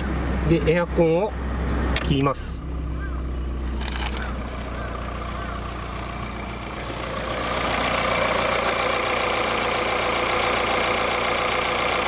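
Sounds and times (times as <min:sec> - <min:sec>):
car engine idling: 0:00.0 - 0:12.0
radiator cooling fan running: 0:00.0 - 0:12.0.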